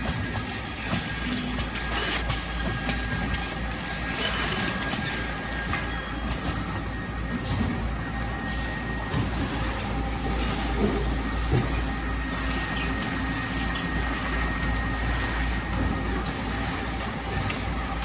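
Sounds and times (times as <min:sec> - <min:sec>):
faint machine whine: 0:00.0 - 0:18.0
machine hum: 0:00.0 - 0:18.0.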